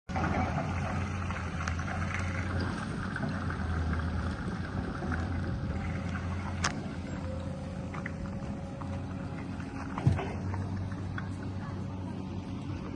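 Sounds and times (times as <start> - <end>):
excavator diesel engine humming: 0.1 - 12.9.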